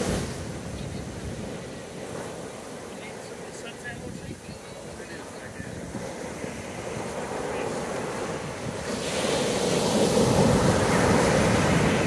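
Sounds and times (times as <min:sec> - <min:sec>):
water washing up a beach: 0:00.0 - 0:12.0
waves breaking on rocks: 0:00.0 - 0:12.0.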